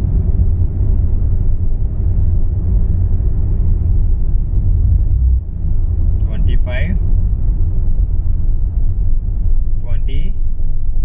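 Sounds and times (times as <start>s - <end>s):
diesel engine low rumble: 0.0s - 11.0s.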